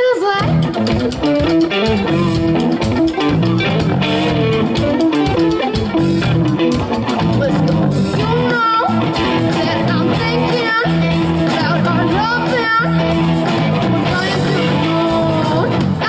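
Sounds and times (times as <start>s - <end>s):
bass guitar: 0.0s - 16.0s
electric guitars: 0.0s - 16.0s
drum kit: 0.3s - 16.0s.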